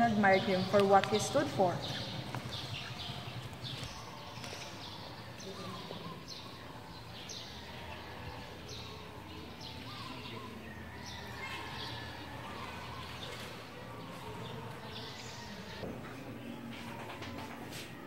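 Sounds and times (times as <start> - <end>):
birds chirping: 0.0 - 17.3.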